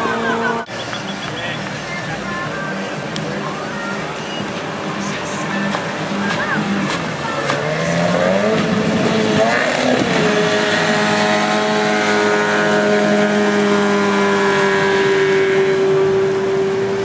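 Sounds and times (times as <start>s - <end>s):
outboard motor at high revs: 0.0s - 17.0s
rushing water: 0.0s - 17.0s.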